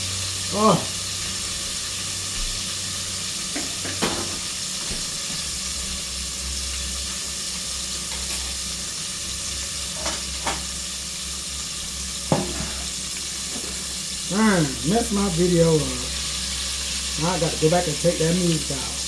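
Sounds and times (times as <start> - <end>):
wings sizzling in hot oil: 0.0 - 19.0.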